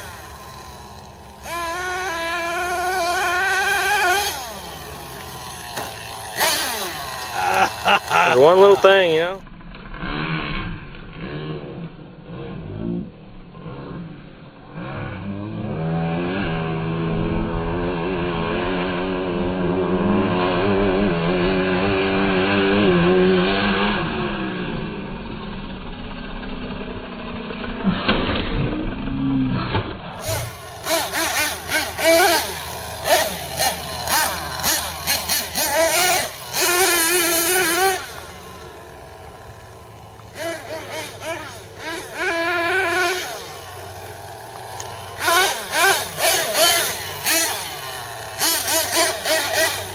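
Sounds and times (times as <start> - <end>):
small nitro engine revving: 0.0 - 49.9.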